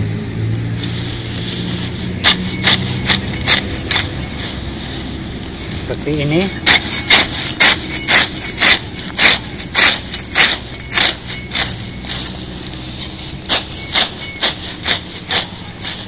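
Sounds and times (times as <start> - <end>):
sickle swishing through grass: 0.6 - 16.0.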